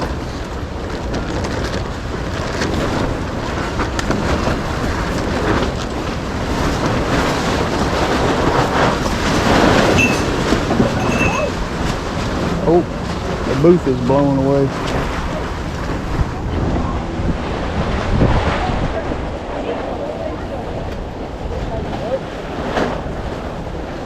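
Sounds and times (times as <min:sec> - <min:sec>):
gusty wind buffeting microphone: 0:00.0 - 0:24.0.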